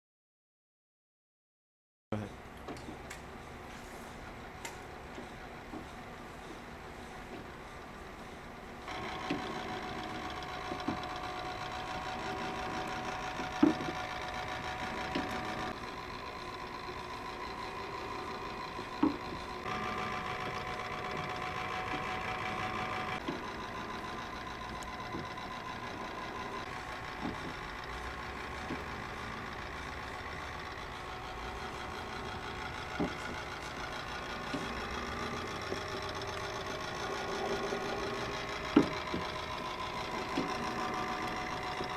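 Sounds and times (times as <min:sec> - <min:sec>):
motor and gear whine: 0:02.4 - 0:41.9.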